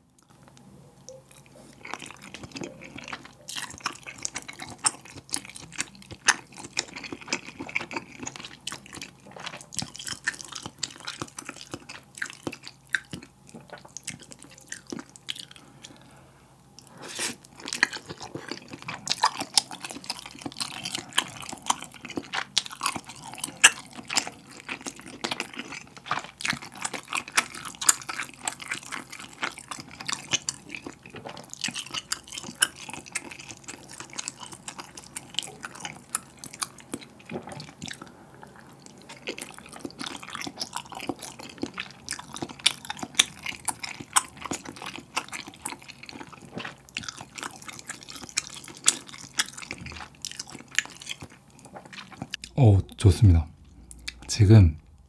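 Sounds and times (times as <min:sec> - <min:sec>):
close chewing with mouth smacks: 0:00.1 - 0:16.1, 0:16.7 - 0:53.0, 0:53.6 - 0:54.3.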